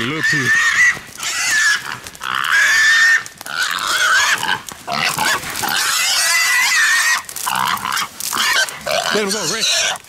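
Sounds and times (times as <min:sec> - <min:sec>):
hog squealing: 0:00.0 - 0:10.0.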